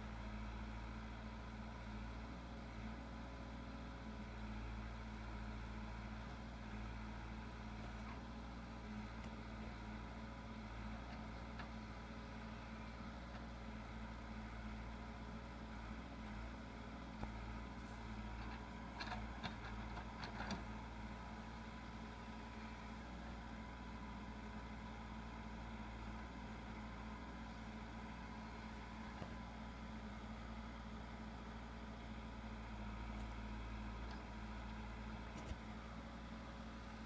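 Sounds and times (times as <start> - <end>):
backhoe loader engine running: 0.0 - 37.0.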